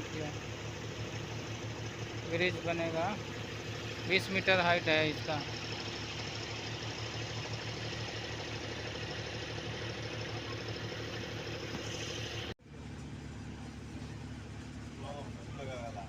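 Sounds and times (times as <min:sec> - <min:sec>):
engine running steadily: 0:00.0 - 0:16.0
quieter engine running: 0:00.0 - 0:16.0.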